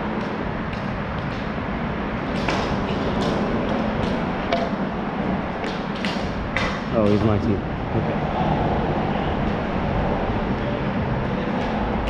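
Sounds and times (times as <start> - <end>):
steady background rumble: 0.0 - 12.0.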